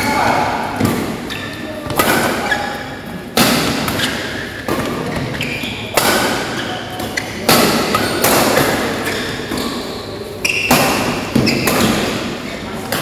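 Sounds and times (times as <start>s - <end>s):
rackets hitting shuttlecock: 0.7s - 9.8s, 10.4s - 13.0s.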